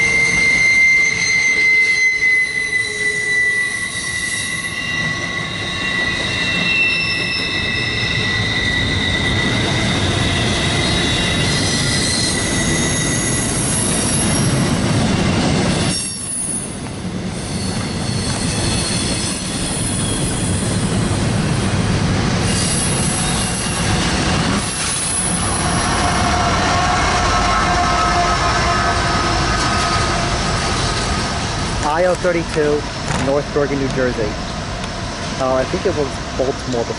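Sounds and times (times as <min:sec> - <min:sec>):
train wheels squealing: 0:00.0 - 0:21.7, 0:22.4 - 0:31.3
rumble of wheels on rail: 0:00.0 - 0:36.9.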